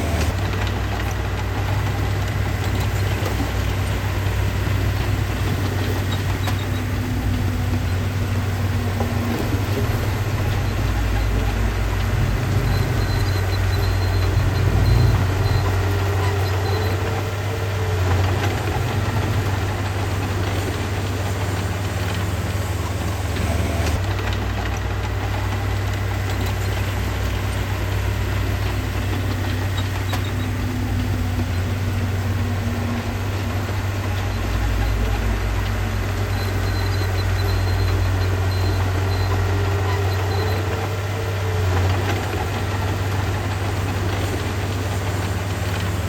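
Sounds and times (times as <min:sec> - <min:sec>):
diesel engine running at low revs: 0:00.0 - 0:46.0.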